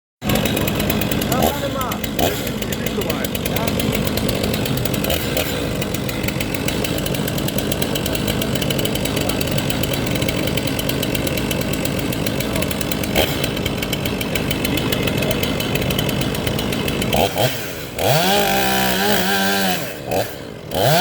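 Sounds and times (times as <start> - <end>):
chainsaw engine buzzing: 0.2 - 21.0.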